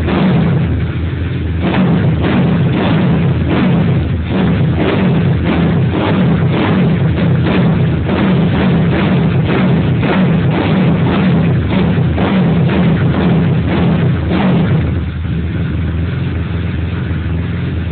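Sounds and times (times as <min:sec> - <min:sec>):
exhaust thumps: 0:00.0 - 0:17.9
motorcycle engine rumbling: 0:00.0 - 0:17.9.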